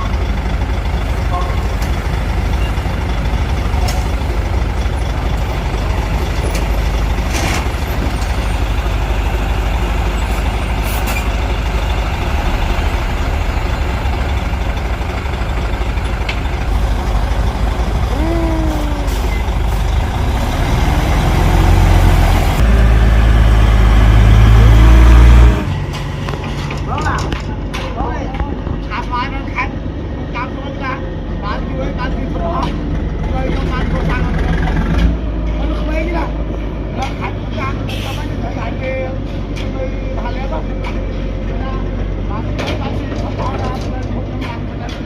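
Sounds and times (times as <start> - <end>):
heavy truck engine rumbling: 0.0 - 45.0.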